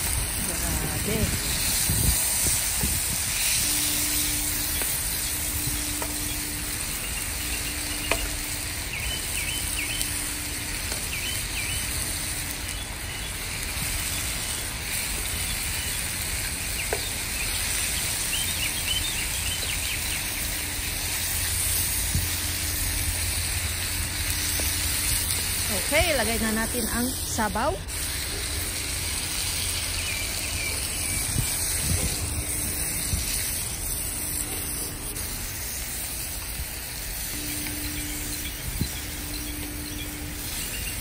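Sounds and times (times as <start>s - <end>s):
chicken sizzling in oil: 0.0s - 41.0s.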